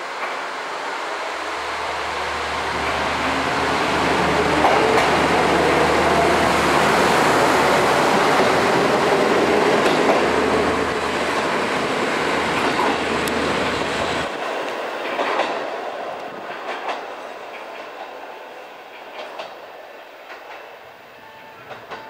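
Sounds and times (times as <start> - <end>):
train wheels rolling on rails: 0.0 - 22.0.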